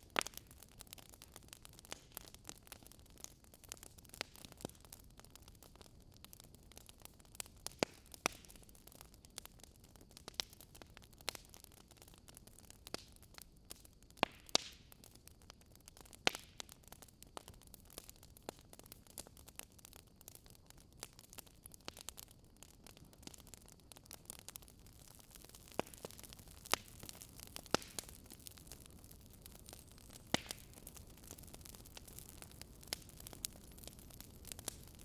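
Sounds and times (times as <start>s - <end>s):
faint steady hiss: 0.0s - 35.0s
wood fire crackling: 0.0s - 35.0s.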